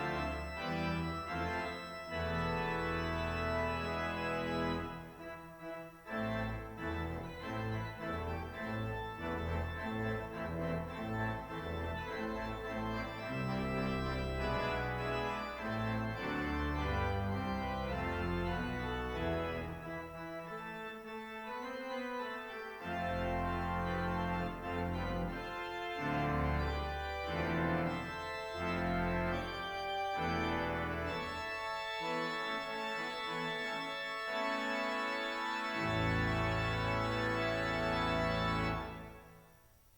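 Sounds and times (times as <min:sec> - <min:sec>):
organ playing chords: 0:00.0 - 0:39.7.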